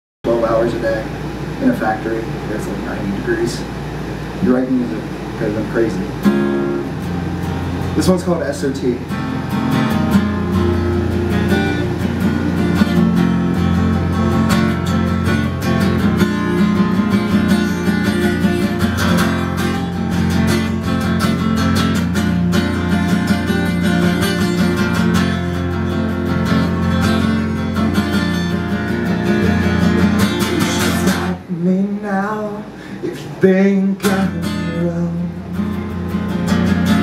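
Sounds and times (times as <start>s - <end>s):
acoustic guitar strumming: 5.1s - 37.0s.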